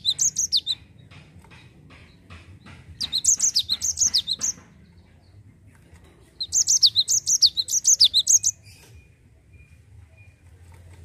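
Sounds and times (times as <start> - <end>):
bird singing rapid rolling song: 0.0 - 10.3.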